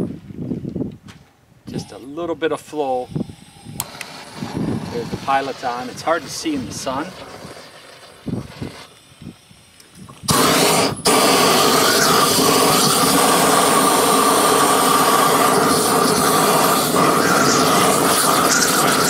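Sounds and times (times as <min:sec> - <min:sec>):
propane torch flame rushing: 0:02.8 - 0:19.0.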